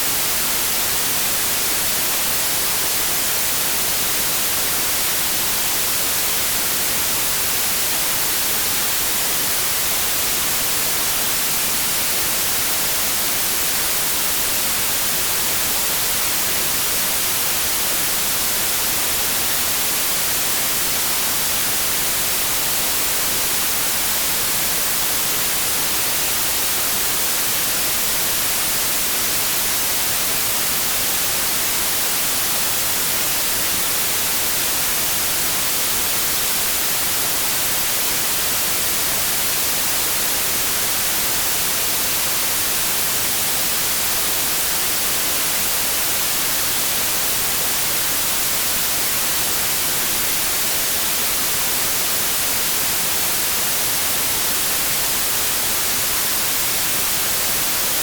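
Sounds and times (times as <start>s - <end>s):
steady white noise: 0.0s - 58.0s.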